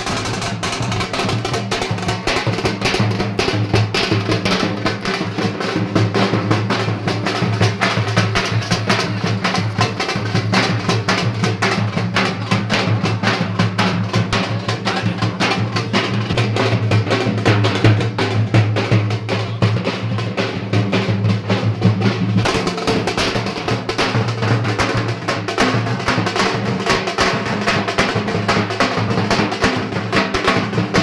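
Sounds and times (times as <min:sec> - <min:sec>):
drums playing a fast beat: 0:00.0 - 0:31.0.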